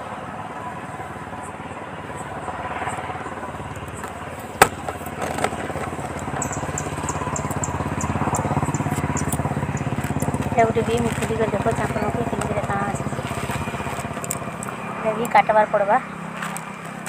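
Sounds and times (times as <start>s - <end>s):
steady low rumble: 1.3s - 16.3s.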